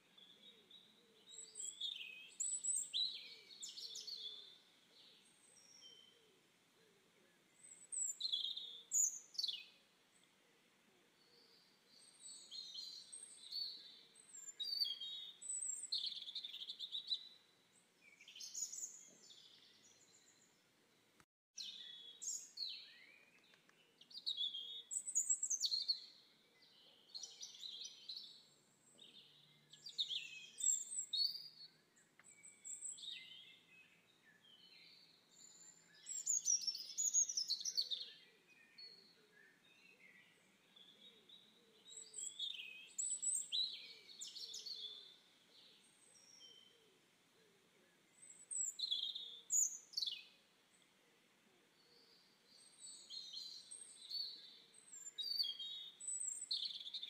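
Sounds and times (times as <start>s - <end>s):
faint background hiss: 0.0s - 57.0s
songbirds chirping and trilling: 0.0s - 57.0s.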